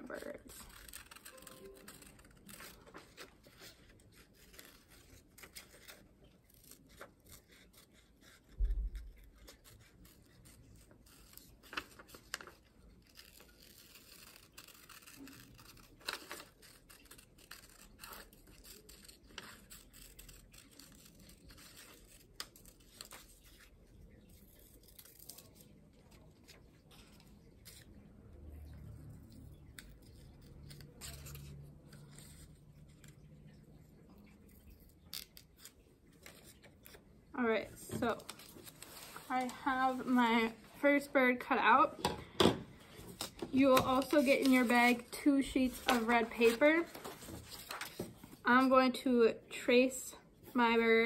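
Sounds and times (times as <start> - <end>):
scissors cutting paper: 0.0 - 41.1, 42.9 - 48.9.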